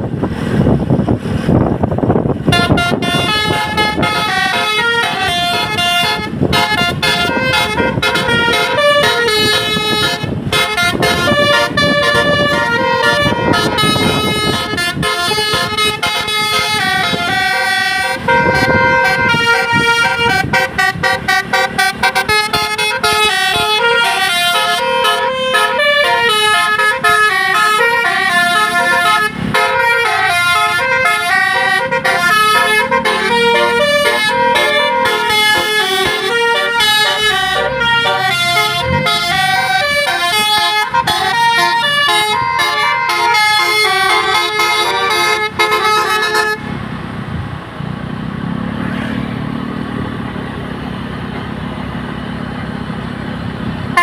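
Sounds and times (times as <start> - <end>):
musical air horn melody: 2.5 - 46.7.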